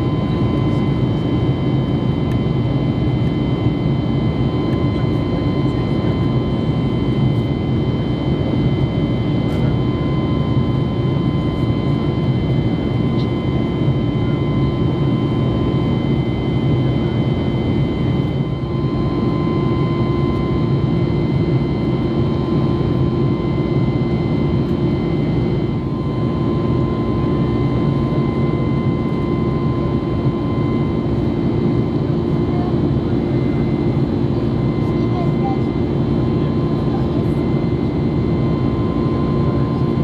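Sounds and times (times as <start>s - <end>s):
jet engine and airflow rush: 0.0s - 40.0s.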